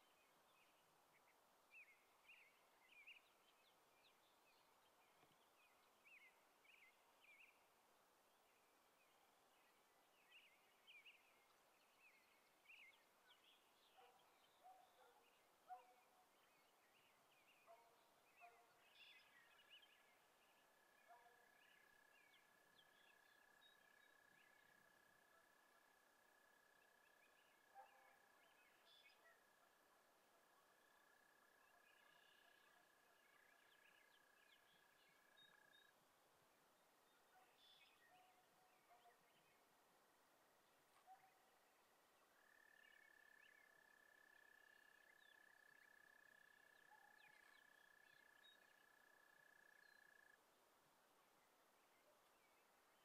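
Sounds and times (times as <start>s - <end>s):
small songbirds chirping: 0.0s - 53.0s.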